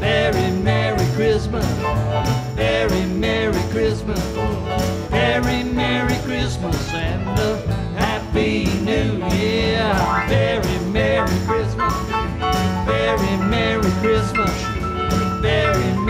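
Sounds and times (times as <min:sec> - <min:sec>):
man singing: 0:00.0 - 0:12.3, 0:12.9 - 0:14.8, 0:15.4 - 0:16.0
fiddle: 0:00.0 - 0:16.0
strummed acoustic guitar: 0:00.0 - 0:16.0.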